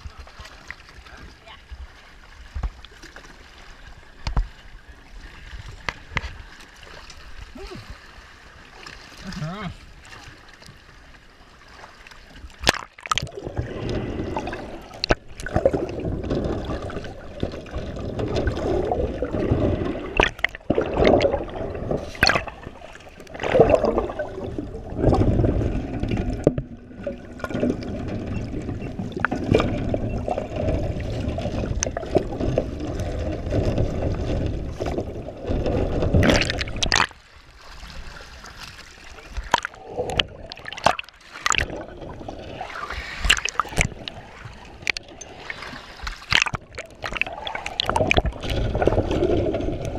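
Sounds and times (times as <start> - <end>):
underwater rumble and gurgling: 0.0 - 49.9.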